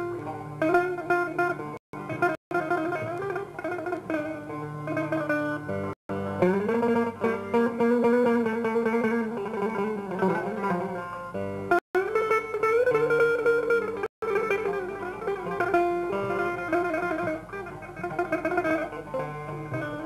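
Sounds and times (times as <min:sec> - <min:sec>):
bright banjo-like plucked strings: 0:00.0 - 0:20.0
long-necked lute plucking: 0:00.0 - 0:20.0.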